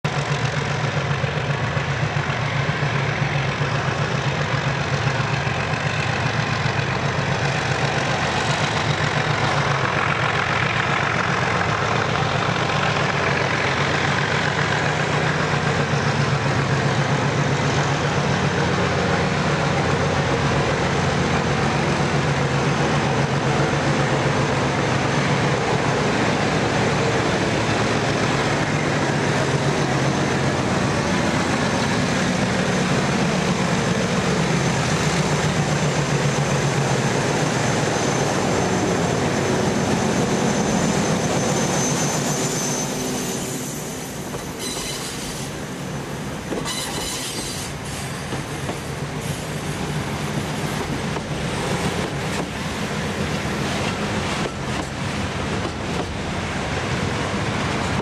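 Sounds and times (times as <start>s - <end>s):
diesel locomotive running under load: 0.0s - 58.0s.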